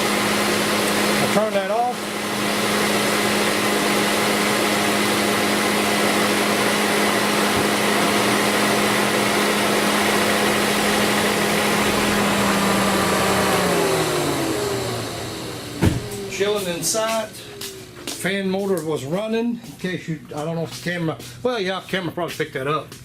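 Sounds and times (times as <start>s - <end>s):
electric fan whirring: 0.0s - 21.8s.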